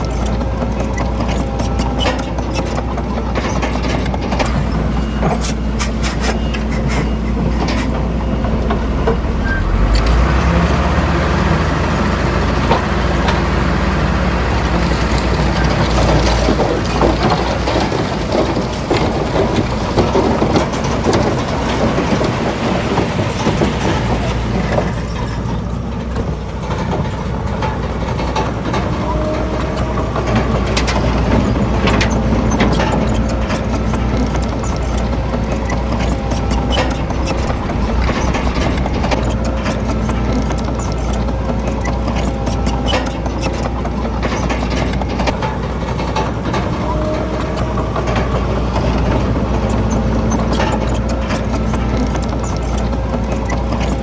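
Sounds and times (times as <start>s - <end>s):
metal clanks and rattles: 0.0s - 10.8s, 12.4s - 54.0s
diesel earthmoving machinery engine: 0.0s - 54.0s.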